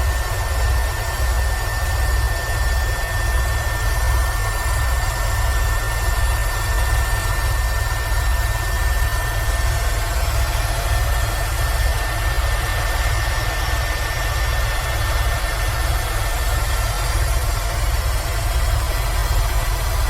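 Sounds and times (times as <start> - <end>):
helicopter in flight: 0.0 - 20.0.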